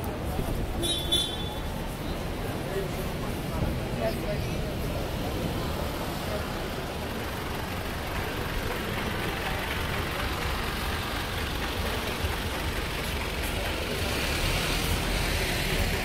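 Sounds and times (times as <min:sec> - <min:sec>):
city street noise: 0:00.0 - 0:16.0
vehicle engine idling: 0:00.1 - 0:16.0.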